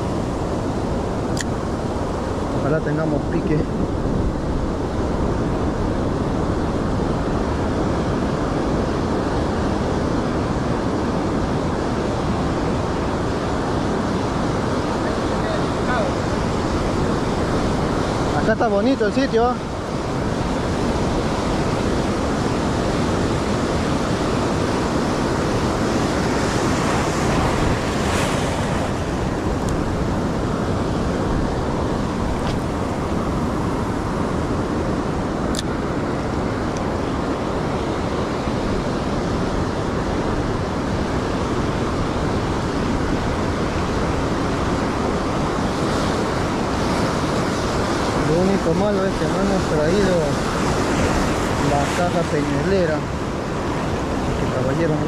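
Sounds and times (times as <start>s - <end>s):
ocean surf on beach: 0.0s - 55.0s
wind on microphone: 0.0s - 55.0s.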